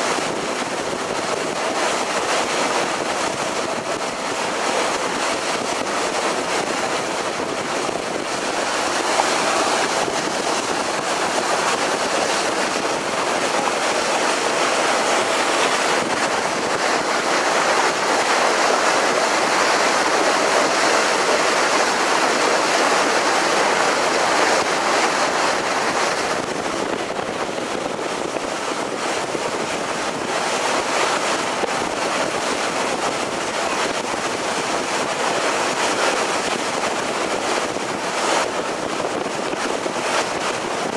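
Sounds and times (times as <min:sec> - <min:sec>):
water rushing along hull: 0:00.0 - 0:40.9
wind on microphone: 0:00.0 - 0:40.9.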